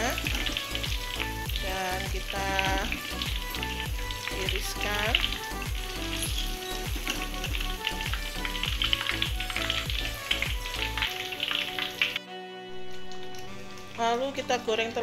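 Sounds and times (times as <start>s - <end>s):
tofu sizzling in hot oil: 0.0s - 12.2s
background music with falling bass: 0.0s - 14.5s.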